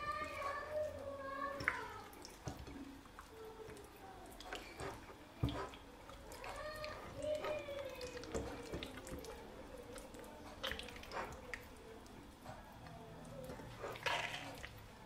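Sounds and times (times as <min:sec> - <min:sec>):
wet squelches and smacks: 0:01.5 - 0:14.9.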